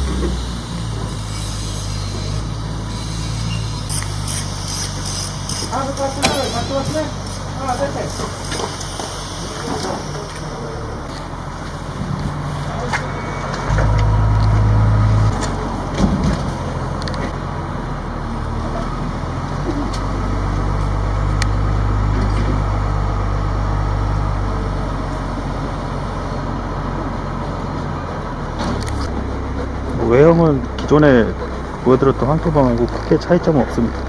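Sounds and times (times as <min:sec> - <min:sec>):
low mechanical drone: 0:00.0 - 0:34.0.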